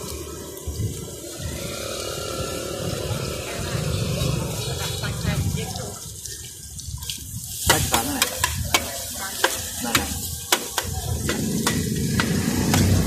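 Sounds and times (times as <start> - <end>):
meat sizzling: 0.0 - 13.0.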